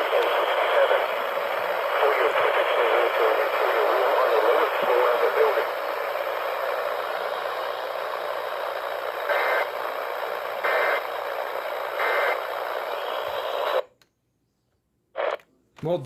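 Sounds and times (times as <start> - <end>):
radio static: 0.0 - 13.9, 15.2 - 16.0.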